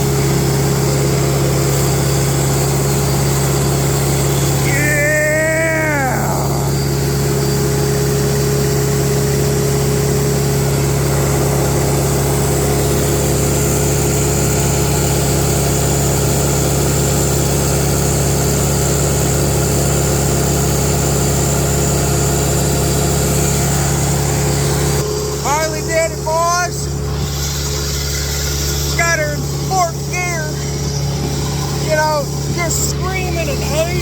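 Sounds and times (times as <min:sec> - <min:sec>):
welder engine running: 0:00.0 - 0:34.0.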